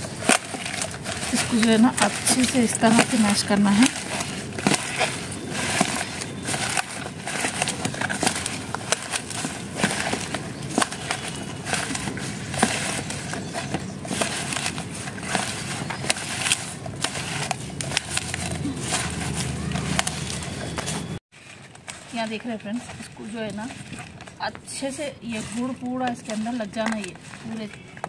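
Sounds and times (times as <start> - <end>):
hand crushing stems in a bowl: 0.0 - 28.0.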